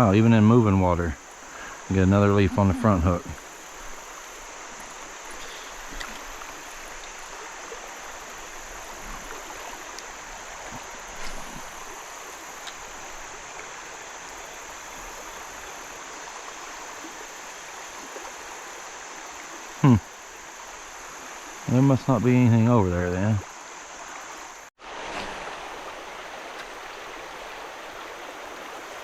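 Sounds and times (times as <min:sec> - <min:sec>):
creek water running over riffles: 0:00.0 - 0:29.0.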